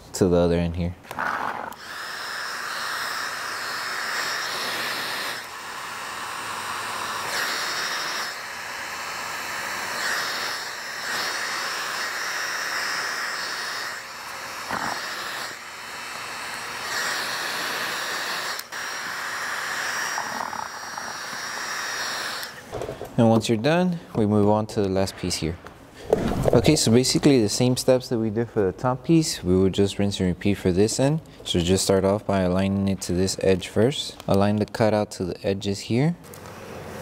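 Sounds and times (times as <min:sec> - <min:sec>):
heat gun fan blowing: 0:00.2 - 0:37.0.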